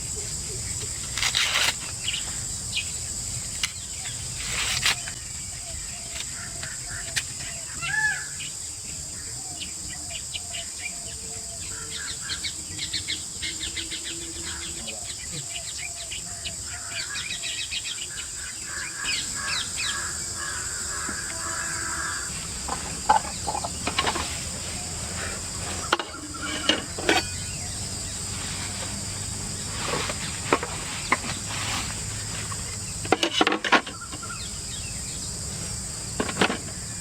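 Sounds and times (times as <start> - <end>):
forest birds calling: 0.0 - 37.0.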